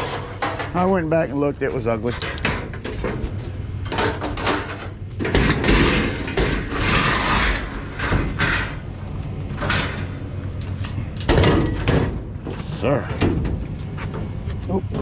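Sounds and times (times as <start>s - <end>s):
scrap metal scraping and clanking: 0.0s - 14.4s.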